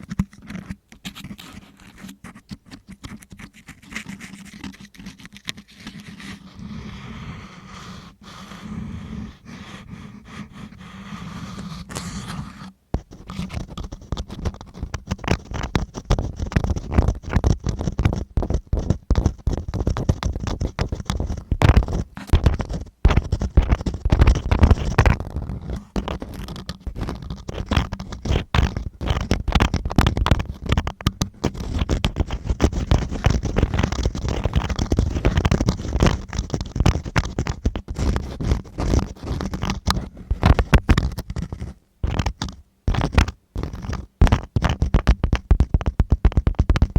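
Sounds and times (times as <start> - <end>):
tool scraping against microphone: 0.0 - 46.9.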